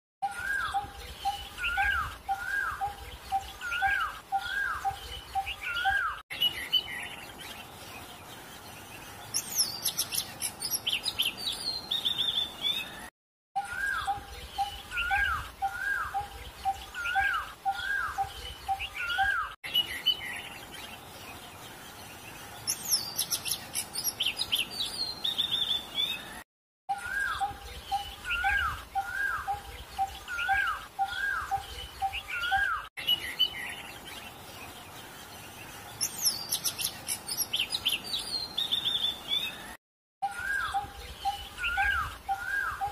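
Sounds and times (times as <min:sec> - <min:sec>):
birds singing and chirping: 0:00.2 - 0:42.9.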